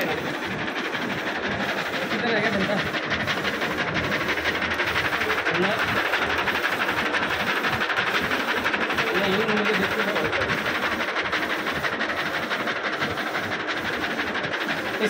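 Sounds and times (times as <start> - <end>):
printer clatter and whir: 0.0 - 15.0
printhead carriage pulse: 0.0 - 15.0.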